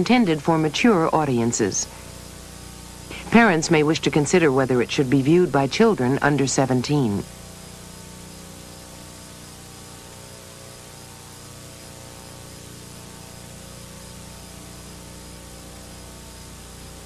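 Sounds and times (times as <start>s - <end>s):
low electrical hum: 0.0s - 17.0s
tape hiss: 0.0s - 17.0s.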